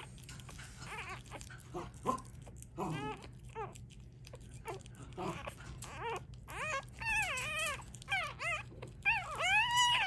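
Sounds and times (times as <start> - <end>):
puppy whimpering: 0.0 - 10.0.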